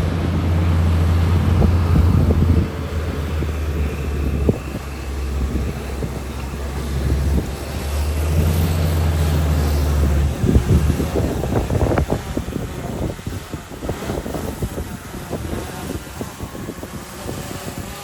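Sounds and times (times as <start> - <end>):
heavy diesel engine droning: 0.0 - 17.1.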